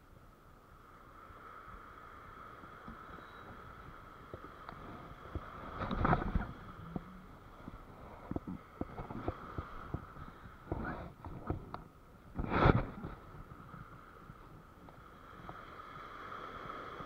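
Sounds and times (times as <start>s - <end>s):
surf washing over sand: 0.0s - 17.0s.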